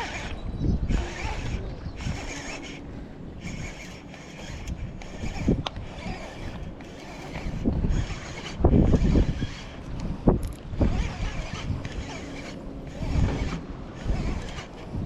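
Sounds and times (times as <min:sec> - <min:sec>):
fishing reel cranking: 0:00.0 - 0:15.0
wind buffeting microphone: 0:00.0 - 0:15.0.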